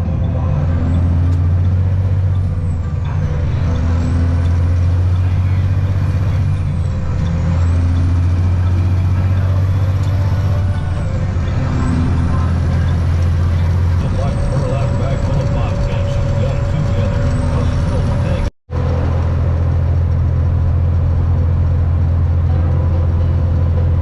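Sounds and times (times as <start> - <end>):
truck diesel engine droning: 0.0 - 24.0.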